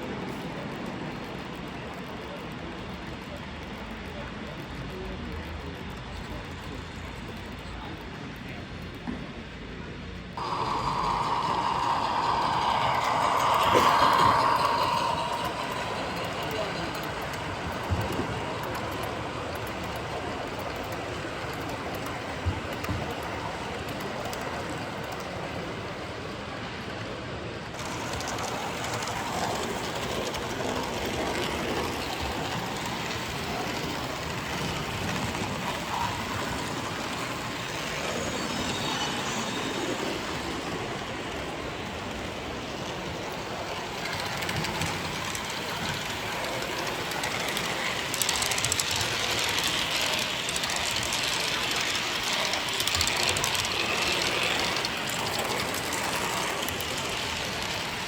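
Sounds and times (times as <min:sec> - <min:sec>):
model train rolling on track: 0:00.0 - 0:58.0.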